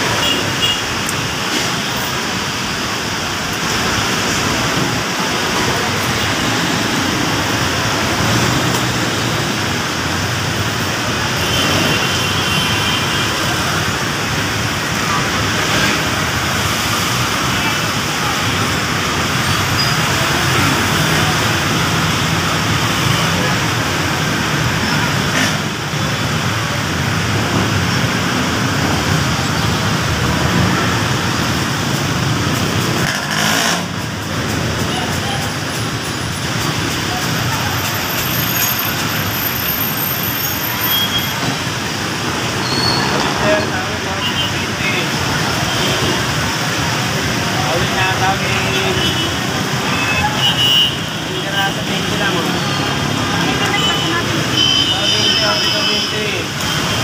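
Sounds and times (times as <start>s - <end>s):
city traffic rumble: 0.0s - 57.0s
heavy pouring rain: 0.0s - 57.0s.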